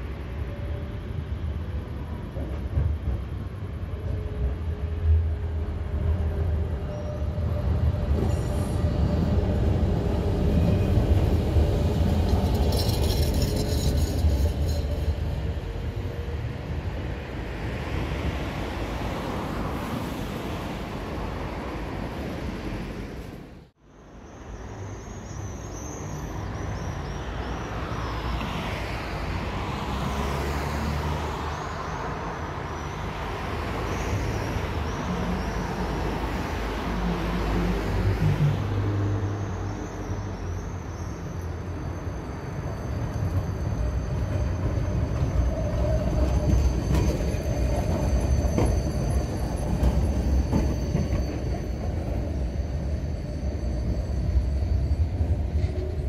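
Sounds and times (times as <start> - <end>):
tram high whine: 0.0 - 56.0
tram rumbling on rails: 0.0 - 56.0.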